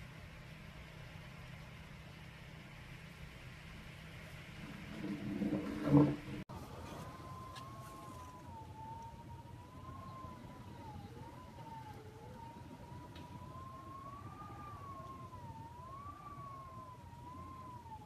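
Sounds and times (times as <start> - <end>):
low rush of wind: 0.0 - 18.0
wind whistling through a window: 0.0 - 18.0.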